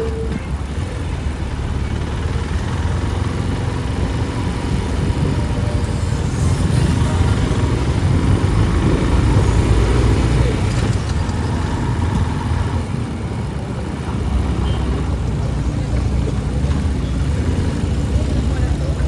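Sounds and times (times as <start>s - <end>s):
motorbike engine rumble: 0.0s - 19.0s
street traffic: 0.0s - 19.0s.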